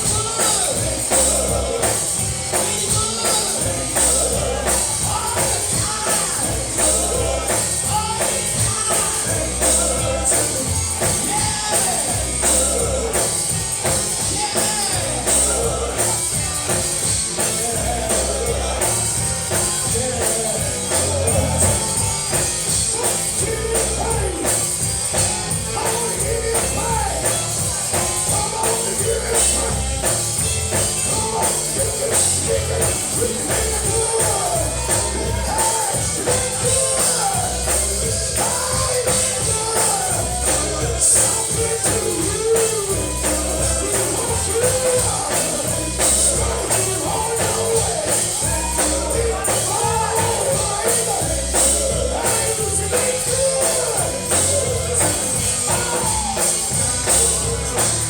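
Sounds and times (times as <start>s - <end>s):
band playing: 0.0s - 58.0s
tambourine: 0.0s - 58.0s
voices singing: 0.0s - 58.0s.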